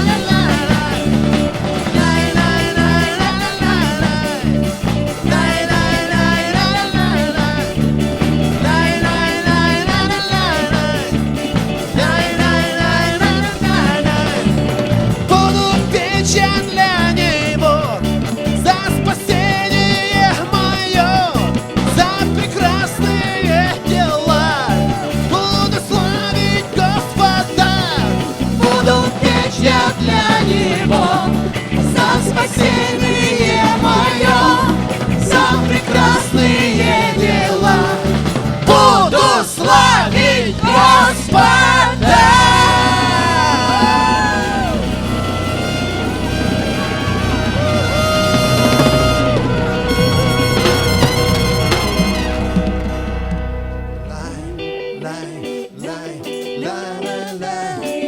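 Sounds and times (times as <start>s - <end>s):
upbeat worship band music: 0.0s - 58.0s.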